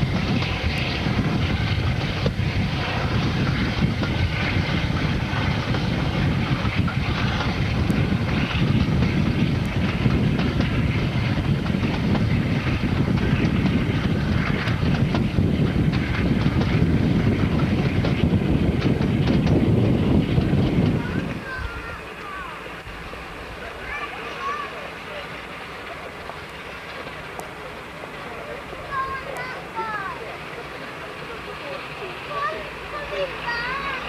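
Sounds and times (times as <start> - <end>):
rail joint clicks: 0.0 - 23.8, 24.4 - 34.0
train wheels rumbling on rail: 0.0 - 34.0.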